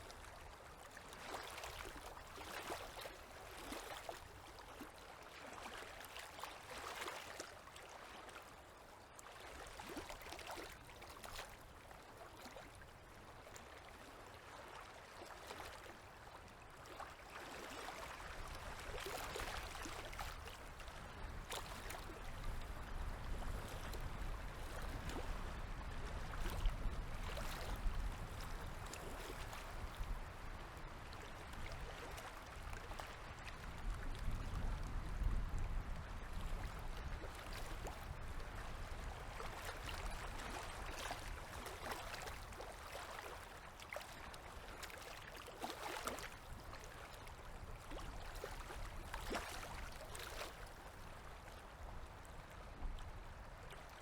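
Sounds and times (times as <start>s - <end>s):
river waves lapping on shore: 0.0s - 54.0s.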